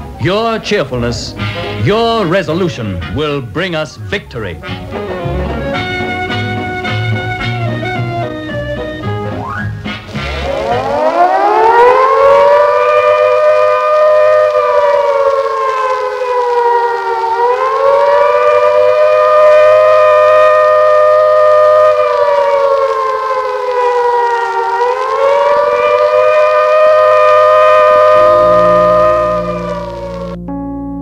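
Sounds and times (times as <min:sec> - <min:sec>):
air raid siren wailing: 0:04.8 - 0:30.4.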